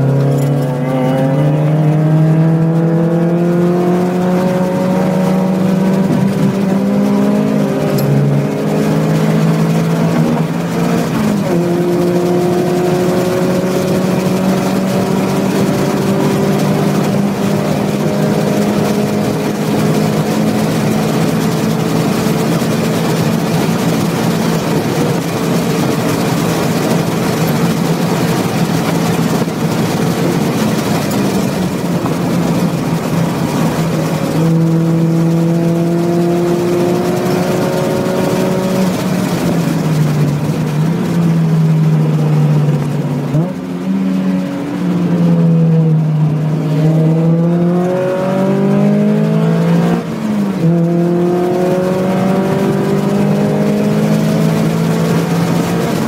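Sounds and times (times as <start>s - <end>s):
car engine pulling hard: 0.0s - 56.0s
wind and road noise: 0.0s - 56.0s.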